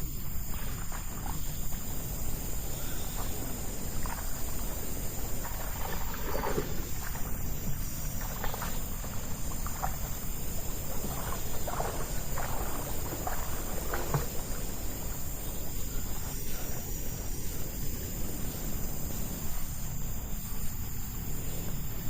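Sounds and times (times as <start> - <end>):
high insect drone: 0.0 - 22.0.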